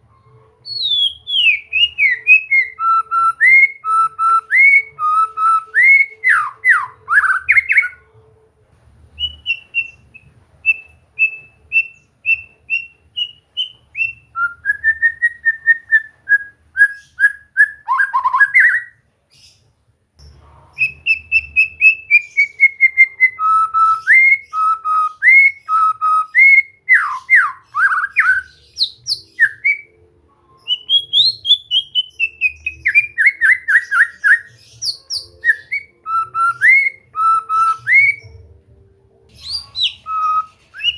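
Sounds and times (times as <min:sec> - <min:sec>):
bird singing whistled phrases: 0:00.6 - 0:08.0, 0:09.2 - 0:19.0, 0:20.8 - 0:30.0, 0:30.6 - 0:38.4, 0:39.3 - 0:40.9.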